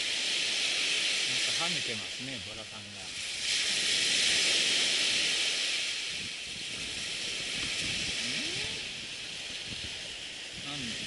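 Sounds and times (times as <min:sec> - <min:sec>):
surf washing up beach: 0:00.0 - 0:11.0.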